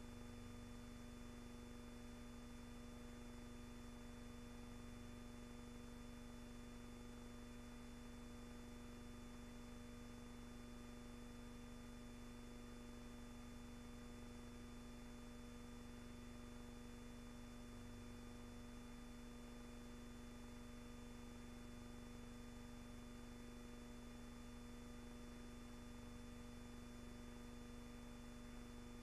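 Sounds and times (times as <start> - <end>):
faint hum with hiss: 0.0 - 29.0.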